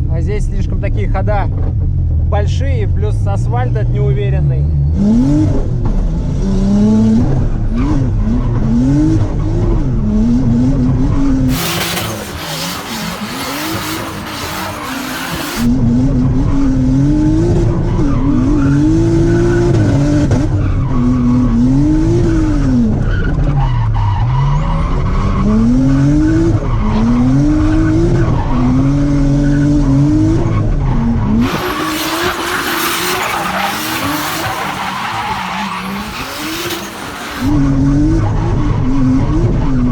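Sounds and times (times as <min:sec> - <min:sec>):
car engine revving: 0:05.0 - 0:23.4, 0:24.8 - 0:39.9.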